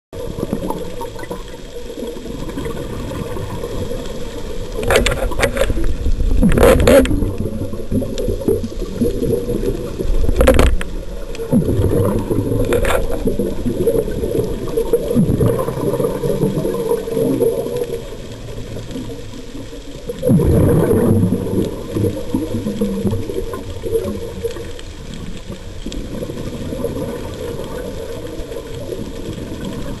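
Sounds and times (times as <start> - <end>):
underwater bubbles gurgling: 0.2 - 30.0.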